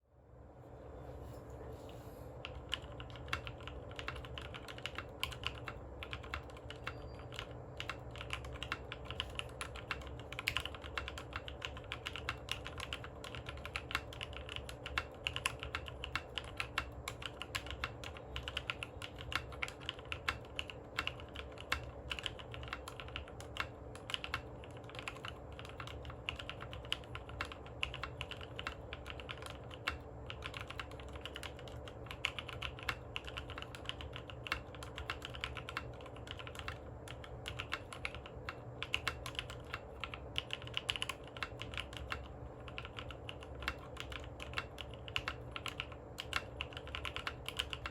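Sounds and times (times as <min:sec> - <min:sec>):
mechanical keyboard typing: 0:02.4 - 0:47.9.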